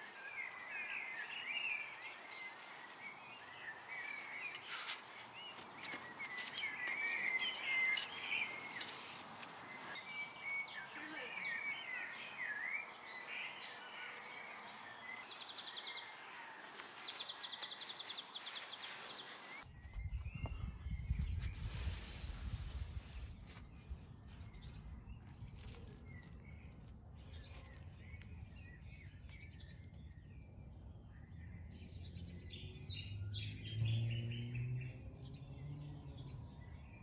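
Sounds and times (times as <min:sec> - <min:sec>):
birds chirping and warbling: 0:00.0 - 0:37.0.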